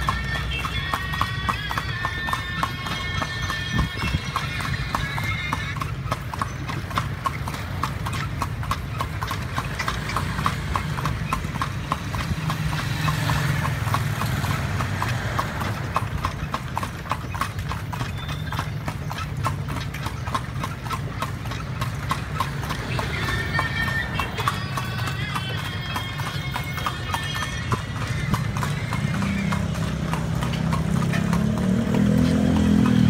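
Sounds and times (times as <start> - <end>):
horse hooves clip-clopping: 0.0 - 33.0
low road rumble: 0.0 - 33.0.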